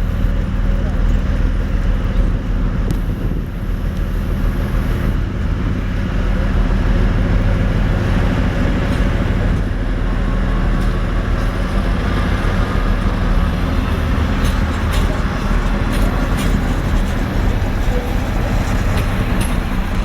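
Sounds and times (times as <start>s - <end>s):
diesel railcar engine humming: 0.0s - 20.0s.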